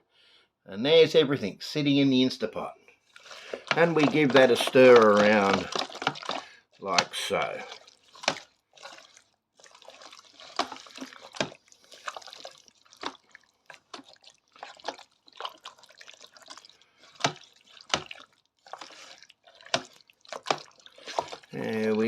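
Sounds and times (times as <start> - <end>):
spoon stirring thick curry: 3.0 - 22.0.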